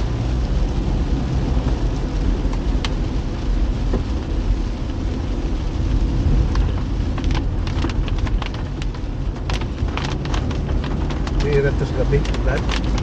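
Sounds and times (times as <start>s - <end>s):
car engine and tyres on wet road: 0.0s - 13.0s
raindrops ticking on car: 0.0s - 13.0s.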